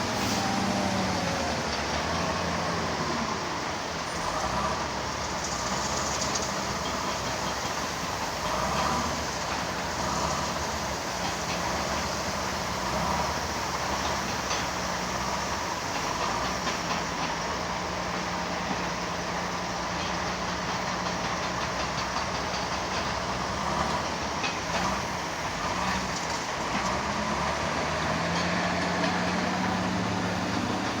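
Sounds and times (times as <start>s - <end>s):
diesel machinery engine running: 0.0s - 31.0s.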